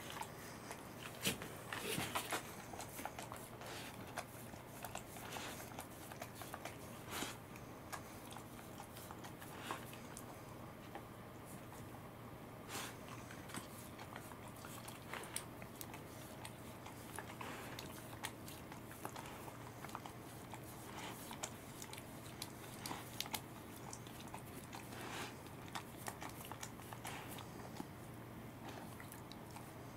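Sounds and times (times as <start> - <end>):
dog chewing and lip smacking: 0.0 - 12.1, 12.7 - 29.9.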